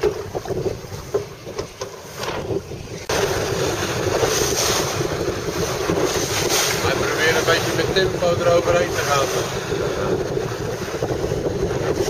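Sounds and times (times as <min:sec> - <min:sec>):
waves slapping against hull: 0:00.0 - 0:12.0
wind buffeting microphone: 0:00.0 - 0:12.0.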